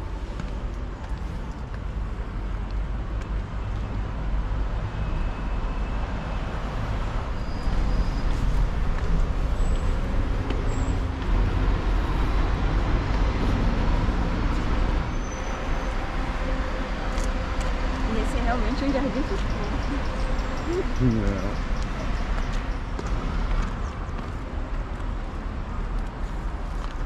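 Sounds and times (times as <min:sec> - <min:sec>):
low rumble of city traffic: 0:00.0 - 0:27.0.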